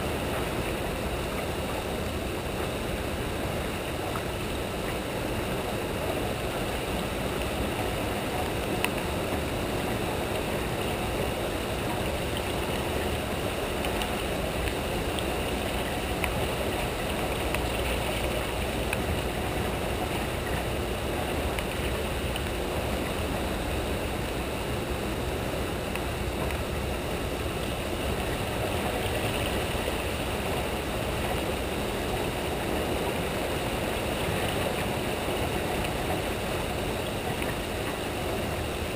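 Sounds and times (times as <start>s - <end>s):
turbulent water rushing: 0.0s - 38.9s.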